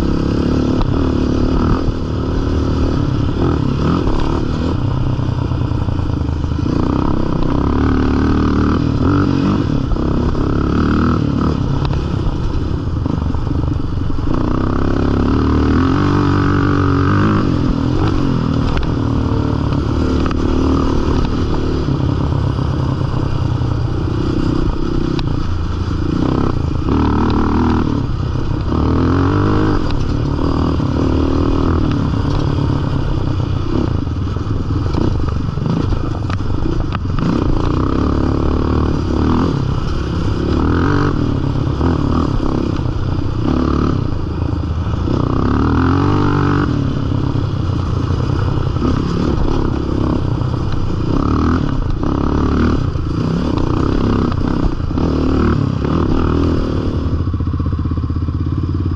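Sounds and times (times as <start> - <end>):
quad engine revving: 0.0 - 34.1, 34.7 - 57.4.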